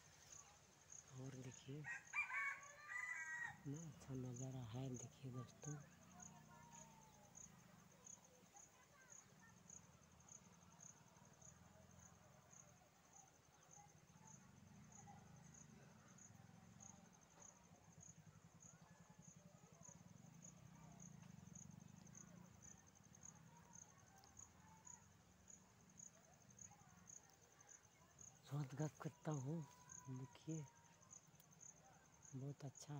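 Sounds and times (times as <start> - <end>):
cricket chirping: 0.0 - 32.9.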